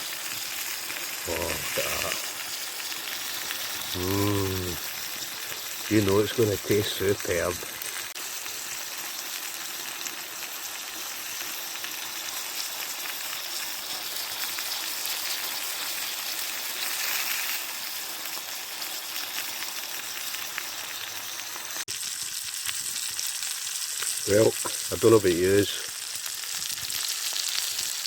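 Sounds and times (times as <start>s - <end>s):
food sizzling in a skillet: 0.0s - 28.0s.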